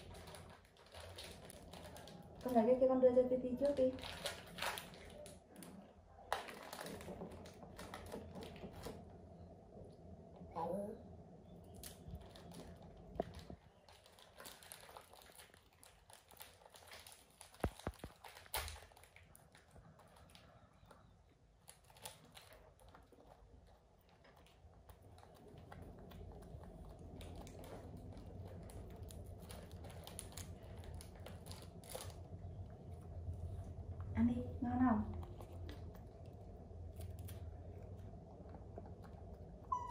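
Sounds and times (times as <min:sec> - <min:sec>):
plastic wrappers crinkling: 0:00.0 - 0:09.3, 0:11.5 - 0:39.9.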